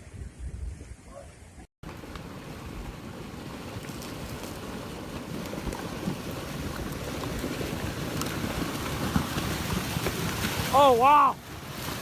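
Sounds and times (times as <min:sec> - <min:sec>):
wind buffeting microphone: 0:00.0 - 0:12.0
flood water rushing: 0:01.8 - 0:12.0.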